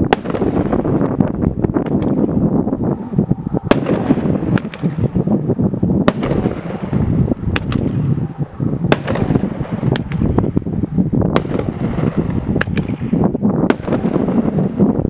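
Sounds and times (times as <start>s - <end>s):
firework crackling: 0.0s - 15.0s
sharp firework reports: 0.0s - 15.0s.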